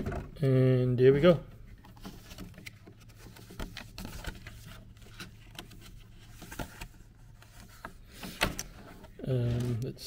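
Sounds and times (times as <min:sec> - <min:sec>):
paper rustling: 0:01.7 - 0:09.8.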